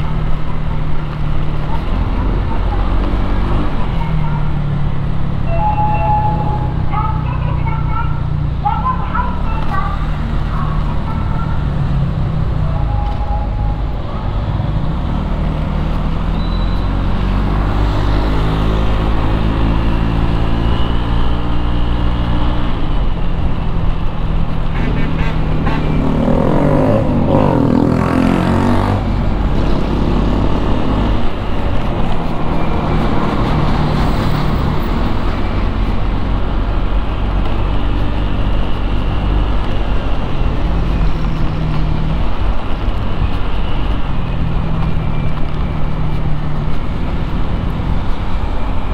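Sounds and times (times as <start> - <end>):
road and traffic noise: 0.0 - 48.9
vehicle passing: 0.0 - 48.9.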